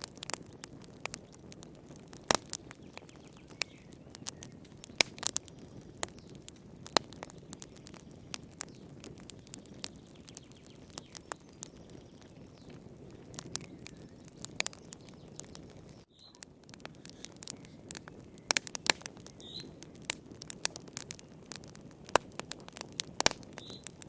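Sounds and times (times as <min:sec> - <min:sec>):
fire pops and snaps: 0:00.0 - 0:24.0
low rustle of flames: 0:00.0 - 0:24.0.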